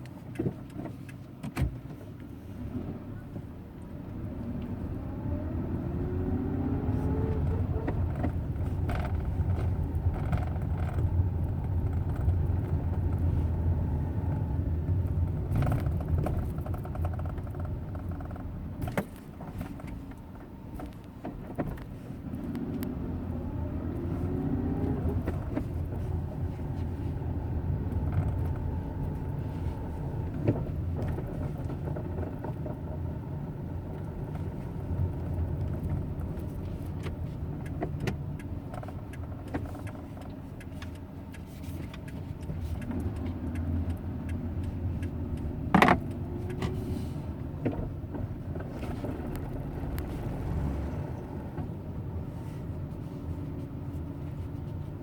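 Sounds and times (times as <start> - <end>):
car engine low drone: 0.0 - 55.0.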